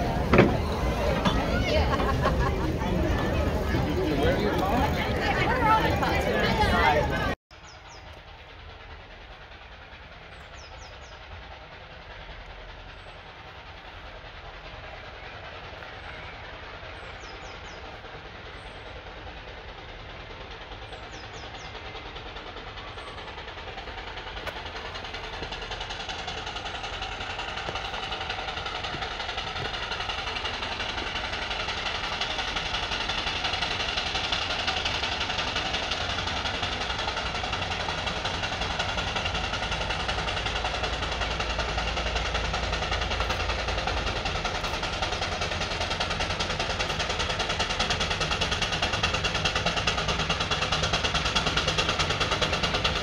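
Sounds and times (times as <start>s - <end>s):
steam engine rumble: 0.0s - 53.0s.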